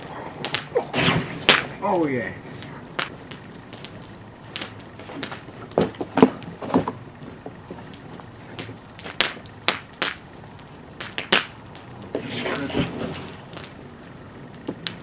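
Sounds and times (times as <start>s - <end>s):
lighters popping in fire: 0.0s - 15.0s.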